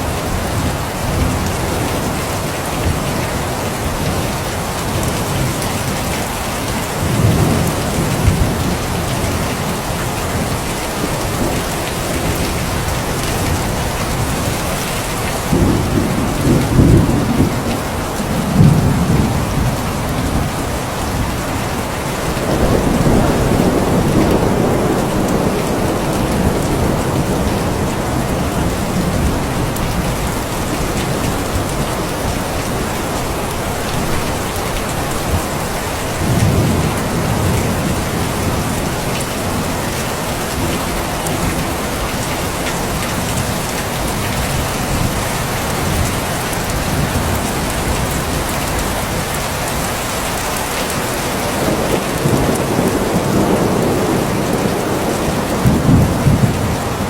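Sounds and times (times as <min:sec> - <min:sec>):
steady rain: 0:00.0 - 0:57.0
thunder rumbling: 0:07.0 - 0:50.0, 0:50.9 - 0:57.0.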